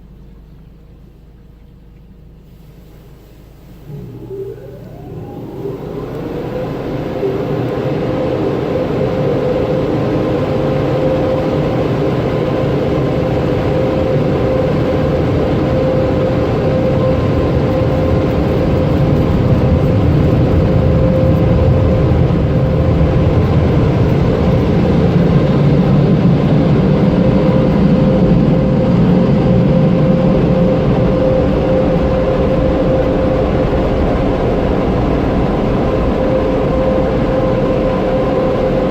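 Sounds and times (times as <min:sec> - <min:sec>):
car wash rushing noise: 0:00.0 - 0:38.9
motor whine: 0:00.0 - 0:38.9.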